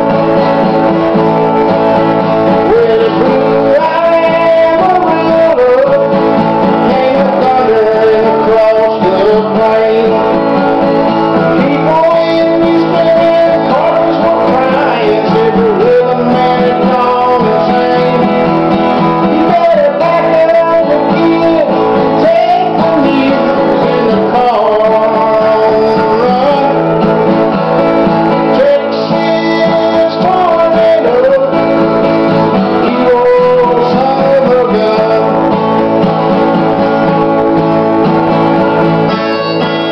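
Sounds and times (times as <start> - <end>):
acoustic guitar strumming: 0.0 - 39.9
harmonica melody: 0.0 - 39.9.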